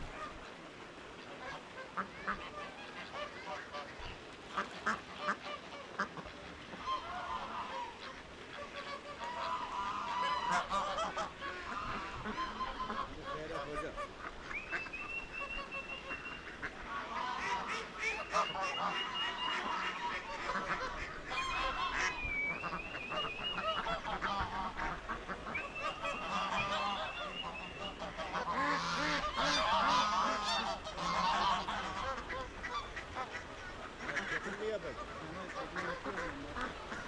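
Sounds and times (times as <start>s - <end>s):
waterfowl honking and calling: 0.0s - 37.0s.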